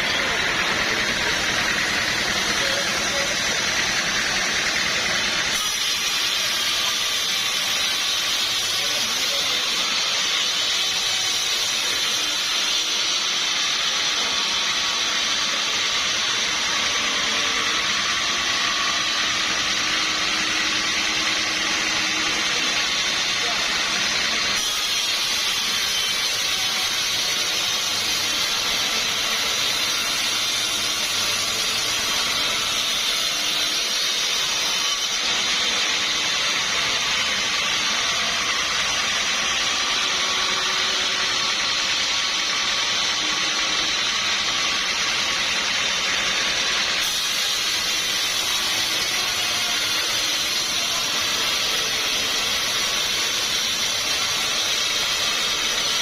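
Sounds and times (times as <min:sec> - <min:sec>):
saw cutting through timber: 0:00.0 - 0:56.0.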